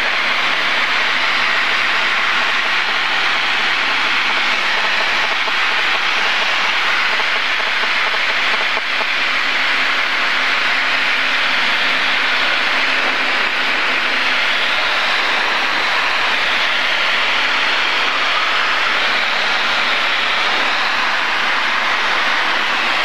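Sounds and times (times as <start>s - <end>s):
aircraft engine and propeller drone: 0.0s - 23.0s
airflow rushing: 0.0s - 23.0s.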